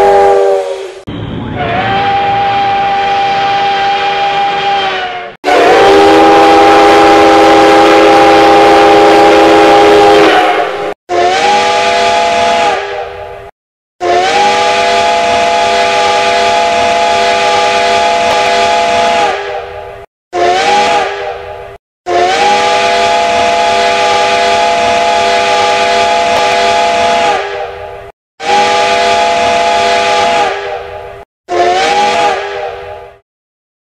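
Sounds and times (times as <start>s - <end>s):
steam whistle blasts: 0.0s - 13.2s, 14.0s - 19.7s, 20.4s - 21.5s, 22.1s - 27.8s, 28.4s - 30.9s, 31.5s - 33.0s.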